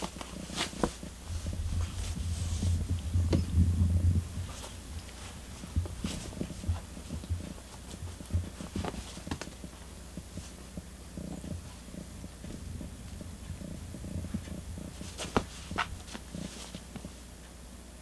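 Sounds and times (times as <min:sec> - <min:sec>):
cats scuffling on floor: 0:00.0 - 0:17.3.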